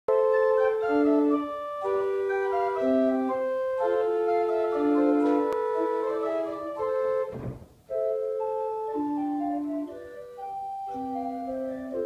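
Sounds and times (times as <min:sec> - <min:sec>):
pipe organ playing held chords: 0:00.1 - 0:12.0.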